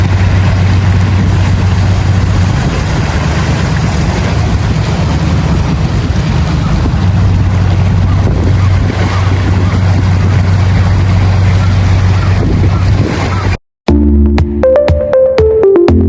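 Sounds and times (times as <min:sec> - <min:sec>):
boat engine humming: 0:00.0 - 0:13.6
wind and water rushing: 0:00.0 - 0:13.6.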